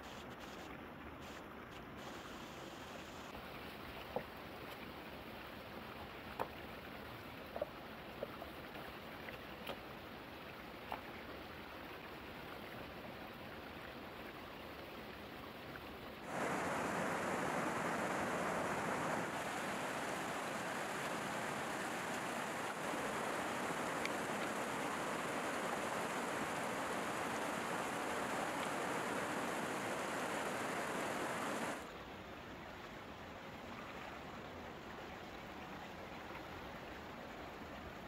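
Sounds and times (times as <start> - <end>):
stream running over stones: 3.3 - 38.0.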